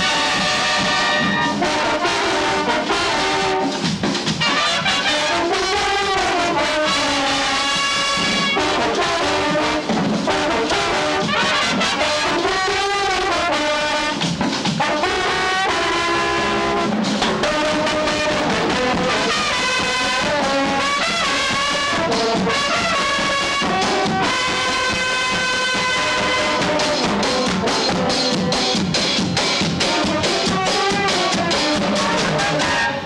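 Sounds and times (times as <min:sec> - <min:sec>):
brass marching band playing: 0:00.0 - 0:33.0.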